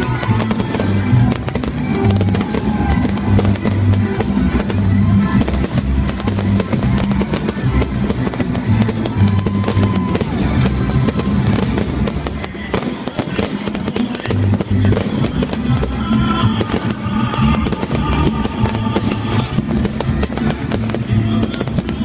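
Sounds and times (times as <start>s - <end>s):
fireworks crackling and popping: 0.0s - 22.0s
music playing: 0.0s - 22.0s.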